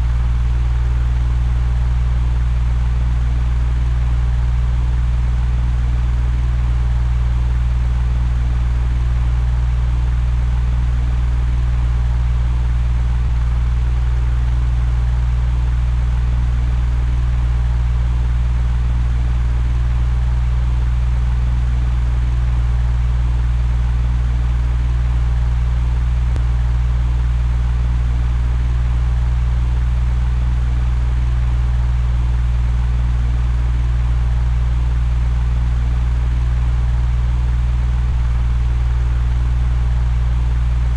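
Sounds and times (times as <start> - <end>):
electric fan humming: 0.0 - 40.9.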